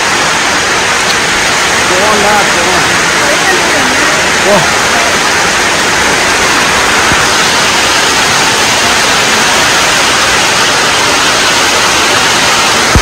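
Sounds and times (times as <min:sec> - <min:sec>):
heavy rain on foliage and water: 0:00.0 - 0:13.0.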